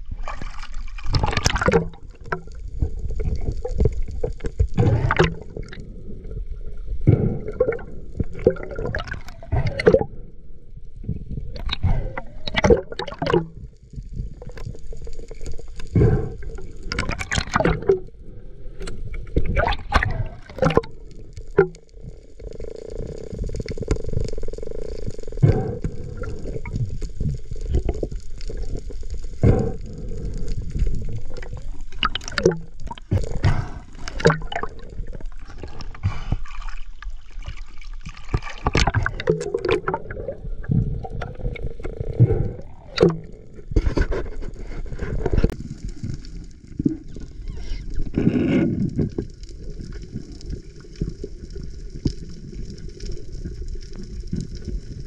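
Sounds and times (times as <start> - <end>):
water gurgling and splashing: 0.0 - 55.0.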